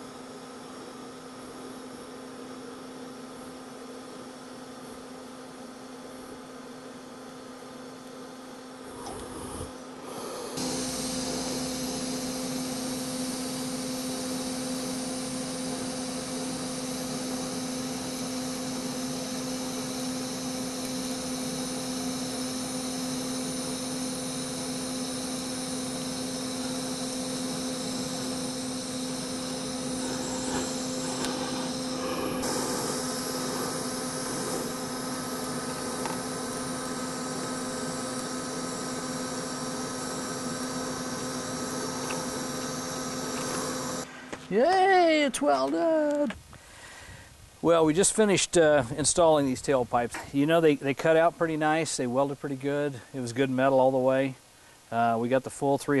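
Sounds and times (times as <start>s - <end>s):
welding arc humming and hissing: 0.0s - 47.0s.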